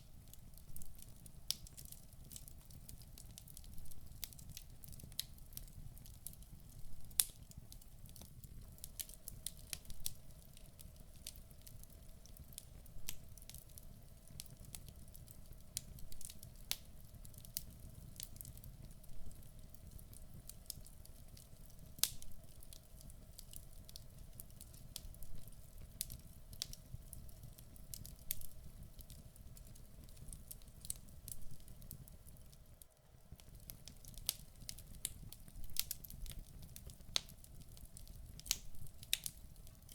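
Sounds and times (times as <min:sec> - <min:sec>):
wood fire low rumble: 0:00.0 - 0:39.9
logs crackling and popping: 0:00.1 - 0:39.9.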